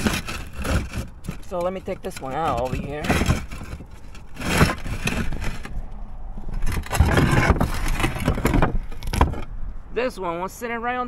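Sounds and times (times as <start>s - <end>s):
roof tiles scraping and knocking: 0.0s - 9.5s.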